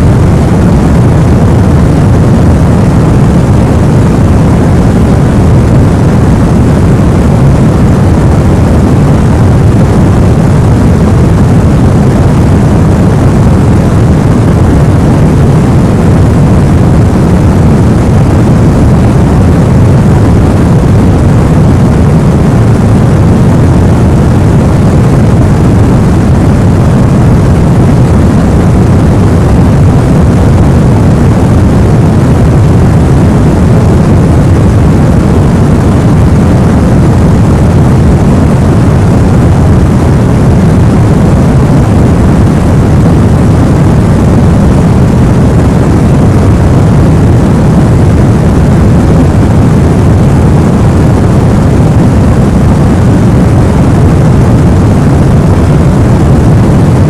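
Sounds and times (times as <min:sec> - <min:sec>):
deep rumbling white noise: 0:00.0 - 0:57.0.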